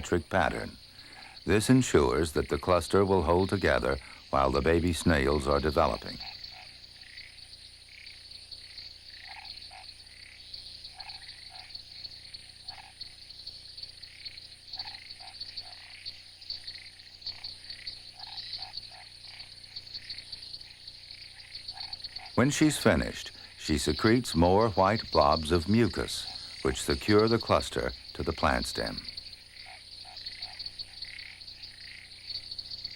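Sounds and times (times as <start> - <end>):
frogs croaking: 0.0 - 32.9
high-pitched insect chorus: 0.0 - 32.9.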